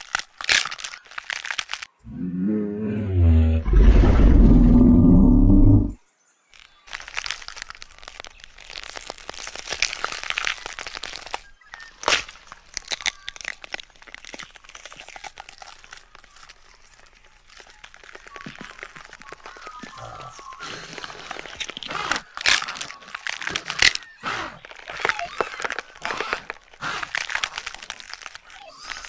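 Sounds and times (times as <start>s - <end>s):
wet crunching of carcass: 0.0s - 2.0s, 6.5s - 29.0s.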